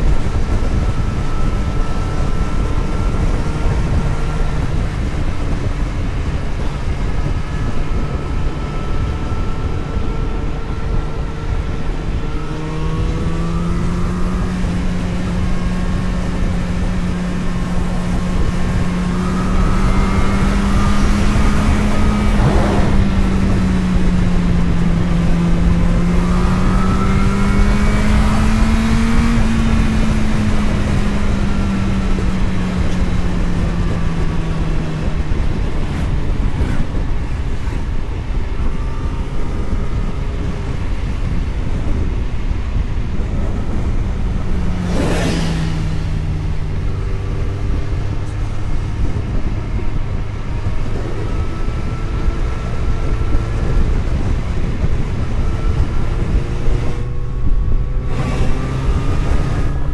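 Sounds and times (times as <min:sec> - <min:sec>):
road and wind rumble: 0:00.0 - 0:59.9
vehicle engine running: 0:00.0 - 0:59.9.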